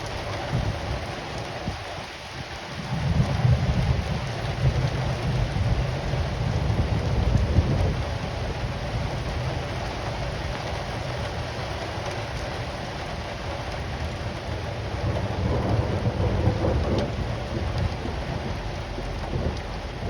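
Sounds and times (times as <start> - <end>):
low rumble of thunder: 0.0 - 2.0, 2.7 - 20.0
rain falling steadily: 0.0 - 20.0.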